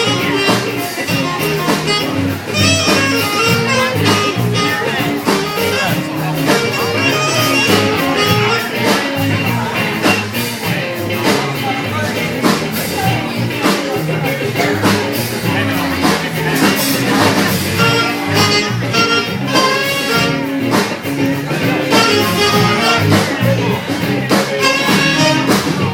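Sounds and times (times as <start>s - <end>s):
live band playing jazz: 0.0s - 25.9s
steady drum beat: 0.0s - 25.9s.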